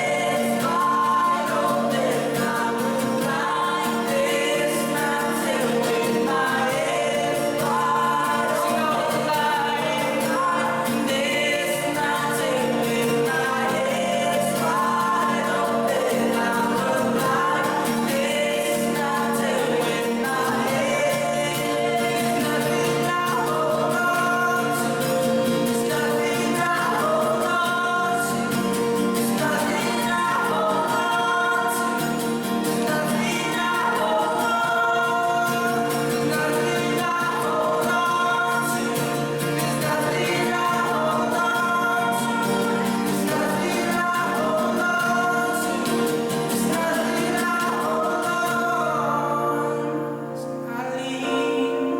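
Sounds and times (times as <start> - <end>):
group singing a hymn: 0.0 - 51.9.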